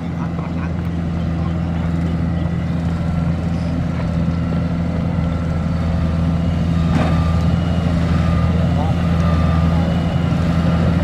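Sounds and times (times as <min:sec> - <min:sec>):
combine harvester diesel engine: 0:00.0 - 0:11.0.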